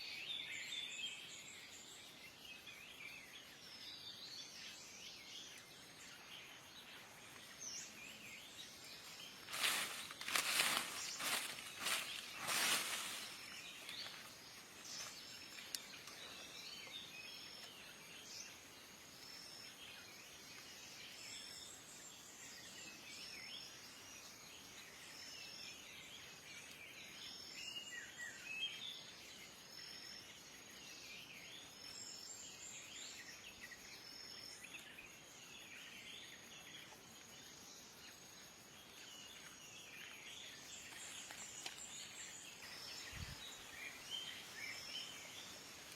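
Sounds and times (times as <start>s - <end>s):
high insect hum: 0.0s - 45.9s
wild birds chirping: 0.0s - 45.9s.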